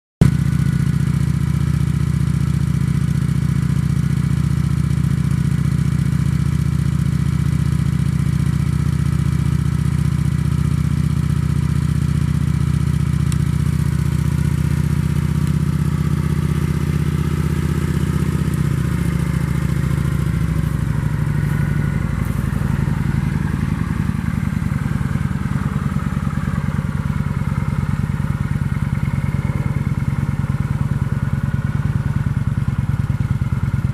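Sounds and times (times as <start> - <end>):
motorcycle engine running: 0.2 - 33.9.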